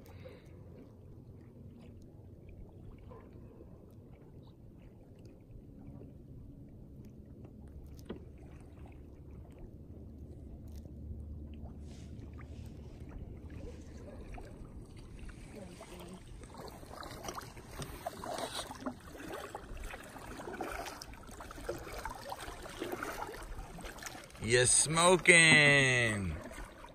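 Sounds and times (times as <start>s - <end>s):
water lapping against canoe hull: 0.0s - 26.9s.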